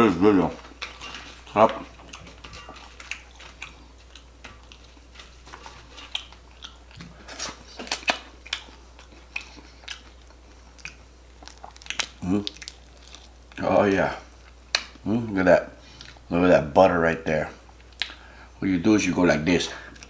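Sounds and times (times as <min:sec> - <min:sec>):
chewing and wet mouth sounds: 0:00.0 - 0:16.3, 0:17.6 - 0:18.4
food crunching: 0:00.0 - 0:16.4, 0:17.6 - 0:18.4.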